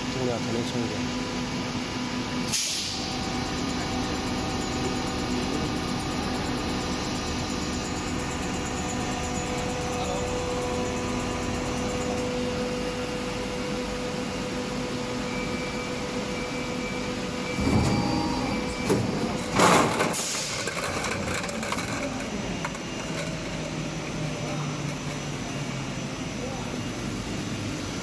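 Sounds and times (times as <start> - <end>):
injection moulding machine humming: 0.0 - 28.0.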